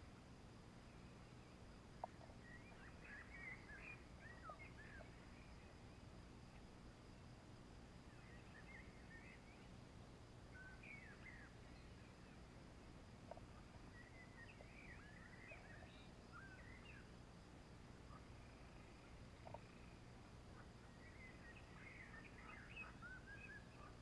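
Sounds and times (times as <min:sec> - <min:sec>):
faint birdsong: 0:00.0 - 0:24.0
low steady background hiss: 0:00.0 - 0:24.0.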